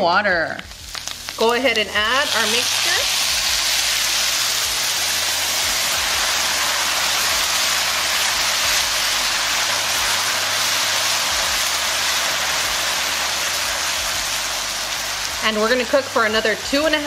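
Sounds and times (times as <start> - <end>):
chicken sizzling in hot oil: 0.6 - 17.0.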